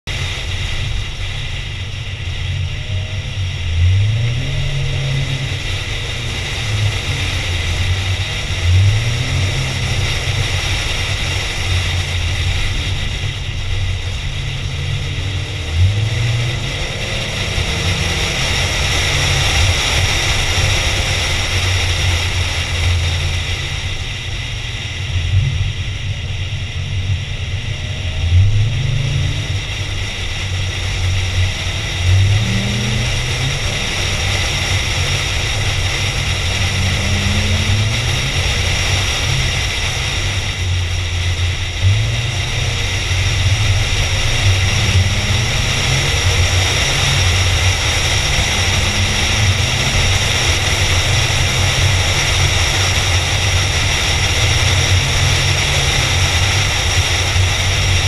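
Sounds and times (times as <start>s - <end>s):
car engine revving under load: 0.0s - 58.0s
road and wind noise: 0.0s - 58.0s.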